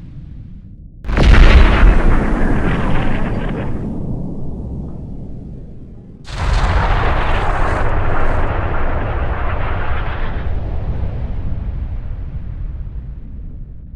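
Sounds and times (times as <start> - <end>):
low rolling echo: 0.0 - 13.9
cannon blast: 1.1 - 13.9.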